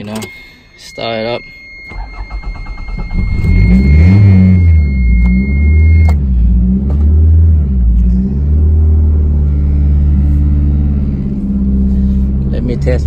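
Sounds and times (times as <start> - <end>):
car engine starting and revving: 1.9 - 13.0.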